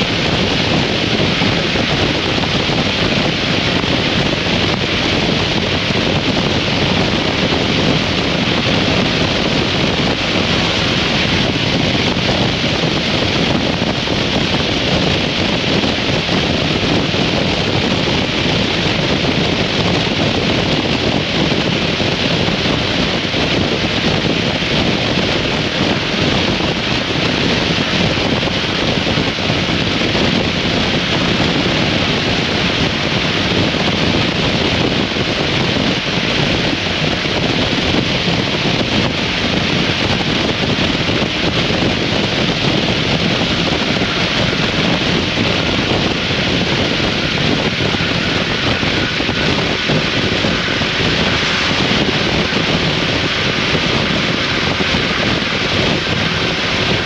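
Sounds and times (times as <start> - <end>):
motorcycle running: 0.0 - 57.0
wind rush over microphone: 0.0 - 57.0.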